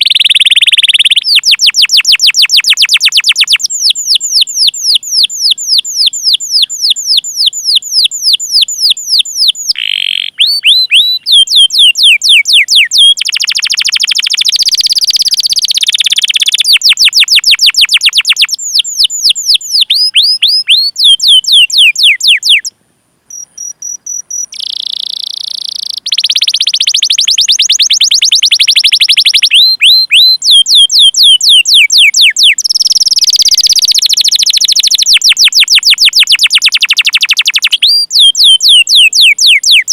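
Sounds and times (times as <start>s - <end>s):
canary singing: 0.0s - 22.7s, 23.3s - 39.9s.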